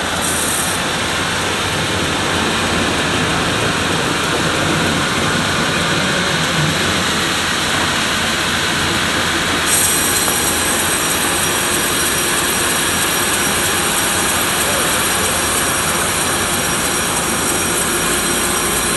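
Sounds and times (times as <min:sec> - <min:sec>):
band sawmill running: 0:00.0 - 0:18.9.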